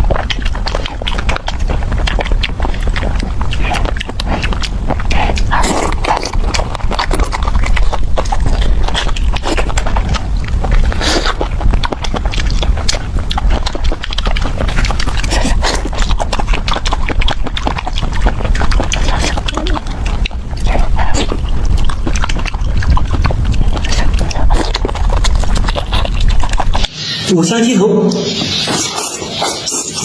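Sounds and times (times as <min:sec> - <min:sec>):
chewing with bone crunches: 0:00.0 - 0:26.9, 0:28.5 - 0:30.0.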